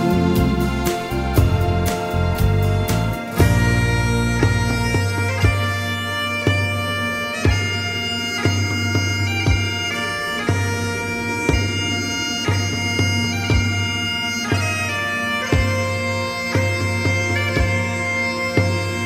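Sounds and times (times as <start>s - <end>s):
drum beat: 0.0s - 14.7s, 15.5s - 19.0s
bagpipes playing melody: 0.0s - 19.0s.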